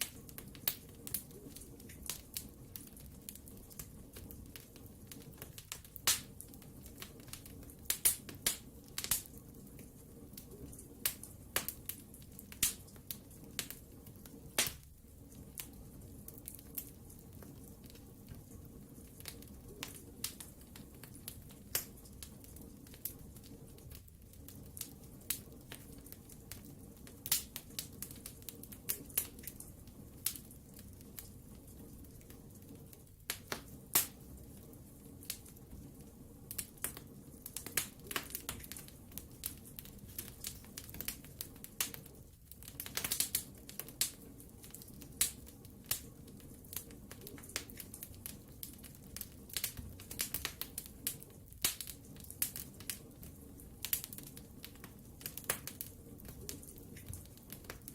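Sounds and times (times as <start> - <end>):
fire hissing: 0.0 - 57.9
wood fire crackling: 0.0 - 57.9.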